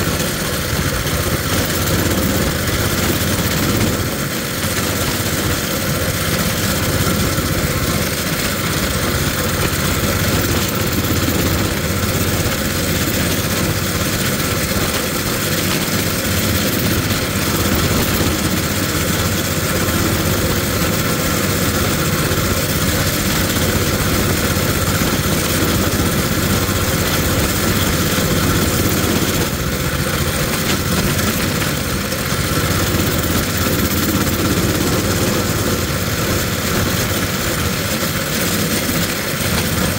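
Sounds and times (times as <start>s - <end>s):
mini bike engine running: 0.0s - 39.9s.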